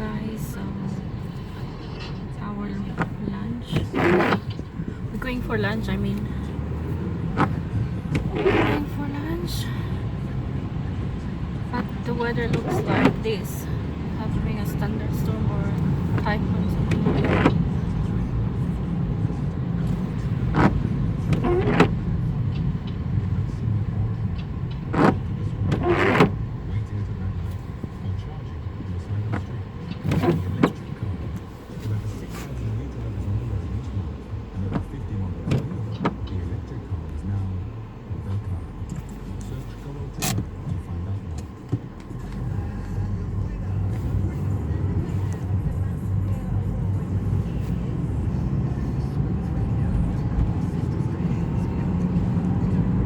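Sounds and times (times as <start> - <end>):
engine and road noise rumble: 0.0 - 53.0.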